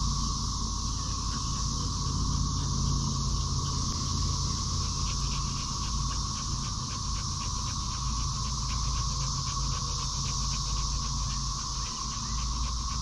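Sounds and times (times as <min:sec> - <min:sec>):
insects droning: 0:00.0 - 0:13.0
dog panting: 0:00.6 - 0:13.0.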